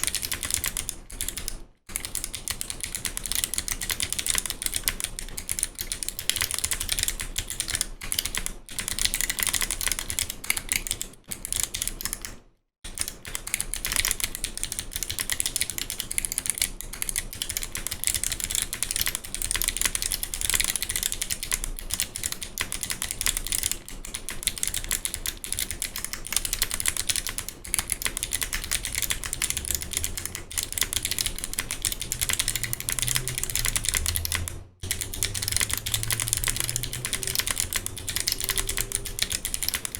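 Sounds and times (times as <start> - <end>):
fast typing on clicky keyboard: 0.0 - 39.9.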